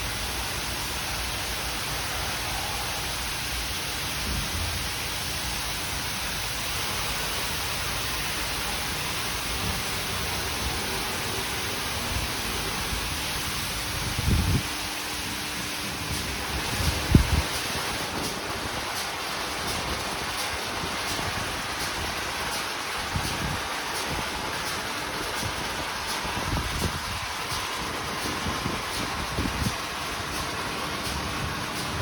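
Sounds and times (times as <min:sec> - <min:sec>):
water spray hissing: 0:00.0 - 0:32.0.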